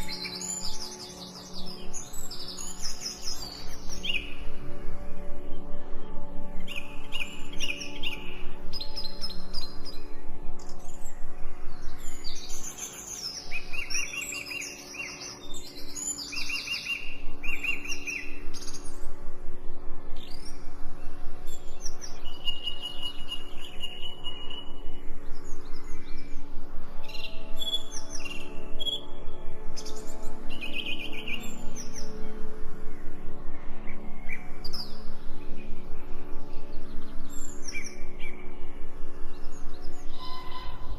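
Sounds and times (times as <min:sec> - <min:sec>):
soft musical drone: 0:00.0 - 0:40.9
songbirds chirping and singing: 0:00.0 - 0:40.9.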